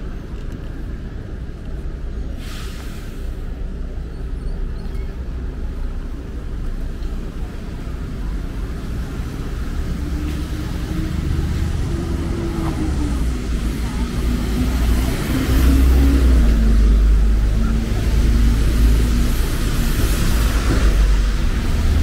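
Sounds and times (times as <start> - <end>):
traffic on wet road: 0.0 - 22.0.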